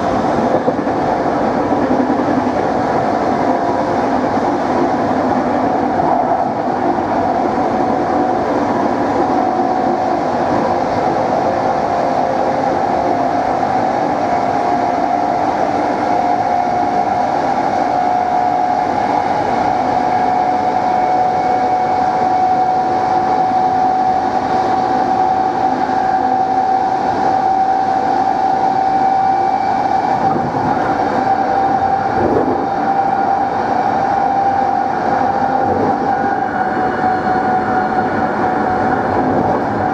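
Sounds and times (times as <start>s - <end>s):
train running rumble: 0.0s - 39.9s
train traction motor whine: 0.0s - 39.9s.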